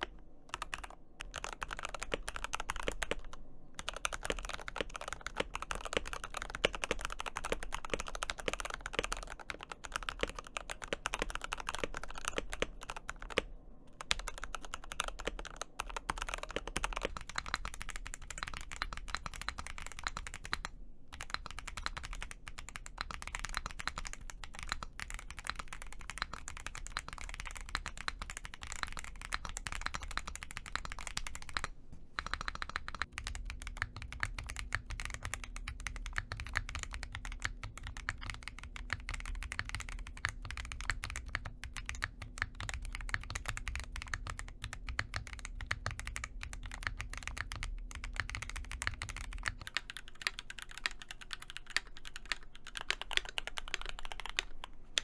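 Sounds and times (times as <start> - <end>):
faint steady hum: 0.0 - 55.0
typing on mechanical keyboard: 0.0 - 55.0.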